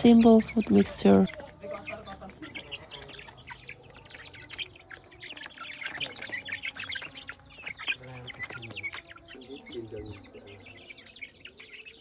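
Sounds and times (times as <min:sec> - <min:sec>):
young chickens cheeping and clucking: 0:00.0 - 0:12.0.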